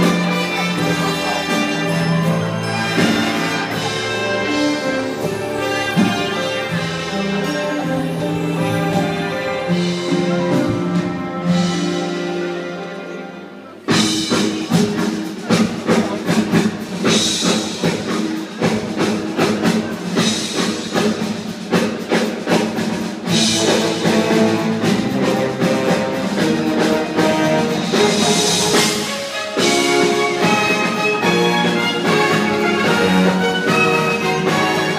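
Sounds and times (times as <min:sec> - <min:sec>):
theatre orchestra playing: 0:00.0 - 0:34.9.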